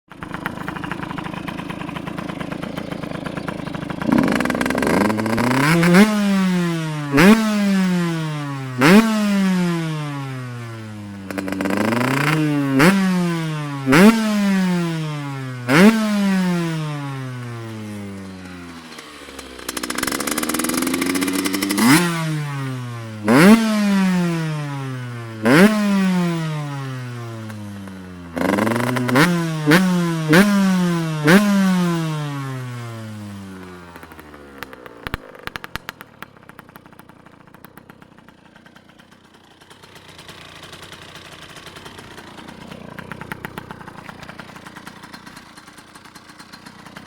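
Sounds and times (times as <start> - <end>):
two-stroke engine revving: 0.0 - 47.0.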